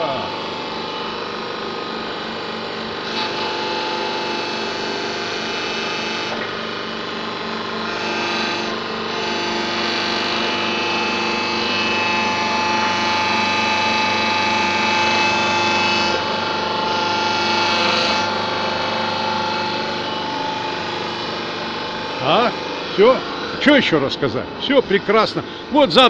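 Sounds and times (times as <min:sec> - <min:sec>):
high machine whine: 0:00.0 - 0:26.0
hydraulic crane machine drone: 0:00.0 - 0:26.0.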